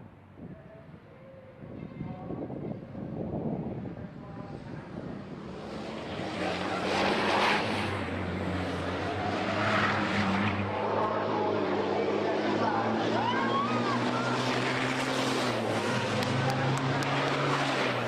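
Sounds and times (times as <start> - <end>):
racing truck diesel engines: 0.0 - 18.0.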